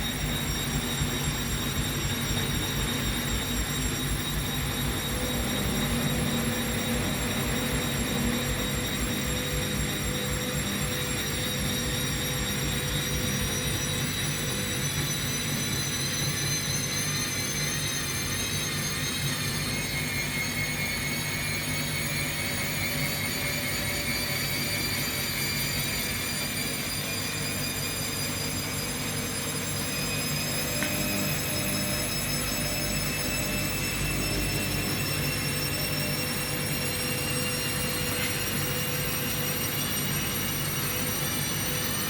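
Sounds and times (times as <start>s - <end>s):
second whine tone: 0.0s - 42.0s
washing machine motor whine: 0.0s - 42.0s.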